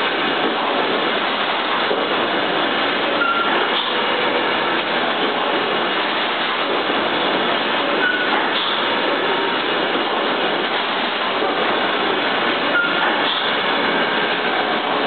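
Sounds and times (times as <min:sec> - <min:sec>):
industrial machinery running: 0:00.0 - 0:15.0.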